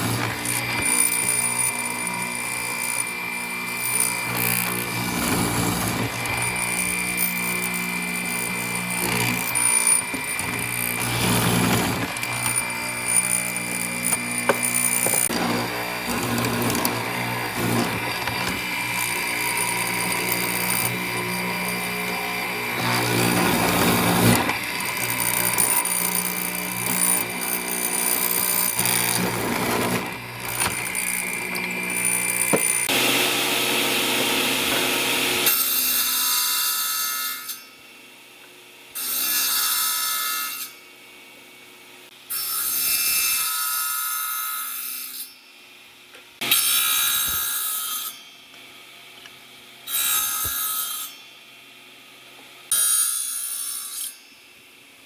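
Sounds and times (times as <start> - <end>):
power tool cutting wood: 0.0 - 37.8, 38.9 - 40.8, 42.1 - 45.3, 46.4 - 48.2, 49.8 - 51.2.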